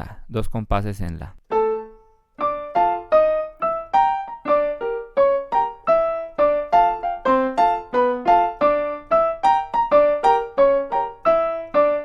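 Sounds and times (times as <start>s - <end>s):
piano playing syncopated chords: 1.4s - 12.0s.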